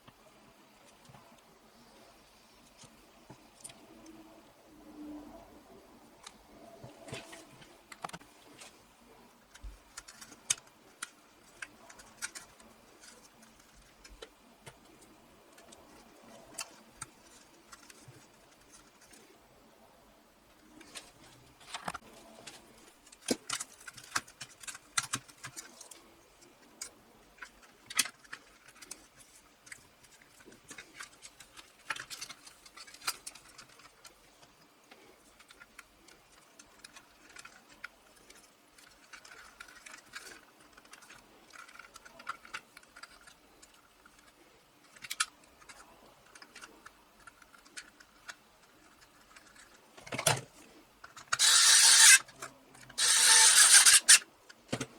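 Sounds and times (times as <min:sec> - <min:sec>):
small parts clicking and tapping: 0:09.5 - 0:19.3, 0:20.7 - 0:54.9.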